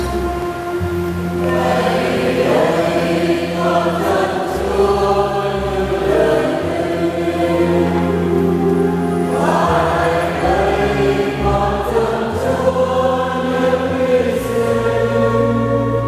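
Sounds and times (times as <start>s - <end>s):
choir singing a hymn: 0.0s - 16.0s
long bass notes: 0.0s - 16.0s.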